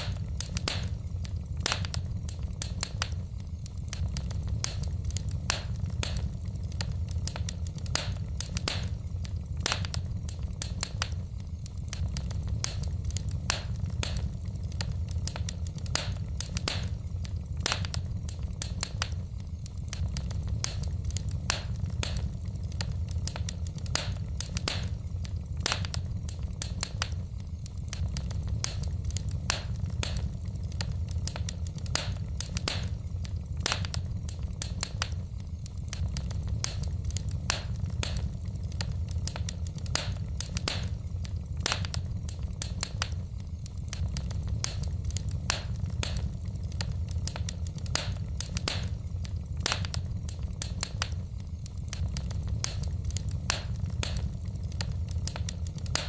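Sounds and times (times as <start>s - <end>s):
fire low rumble: 0.0s - 56.0s
logs crackling and popping: 0.0s - 56.0s.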